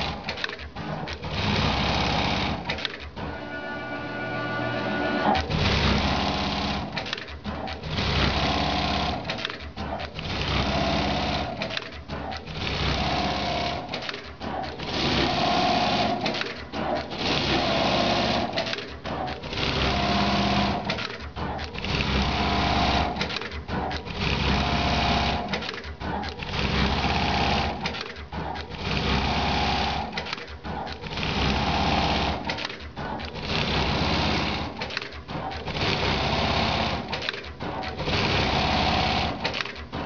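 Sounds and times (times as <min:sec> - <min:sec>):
sewing machine stitching: 0:00.0 - 0:03.5, 0:05.2 - 0:40.0.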